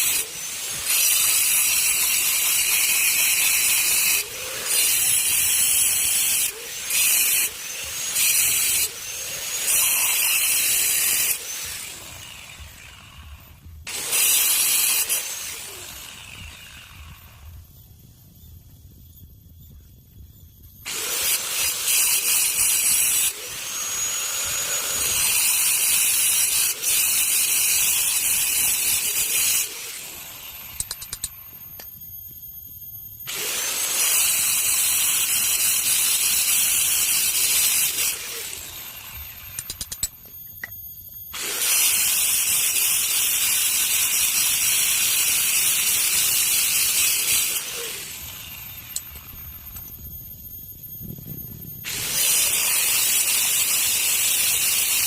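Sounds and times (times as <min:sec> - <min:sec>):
power tool grinding: 0:00.0 - 0:17.5, 0:20.9 - 0:31.4, 0:33.3 - 0:40.7, 0:41.3 - 0:49.8, 0:51.8 - 0:55.0.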